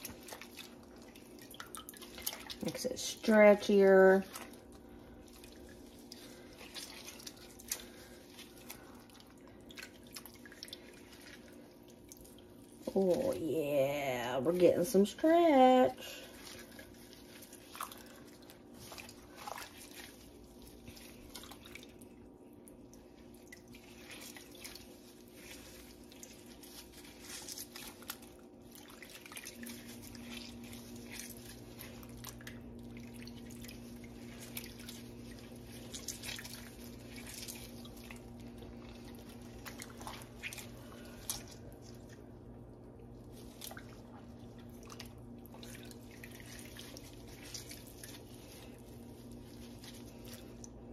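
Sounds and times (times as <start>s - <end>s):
faint drips and small splashes: 0.0s - 50.9s
low steady hum: 0.0s - 50.9s.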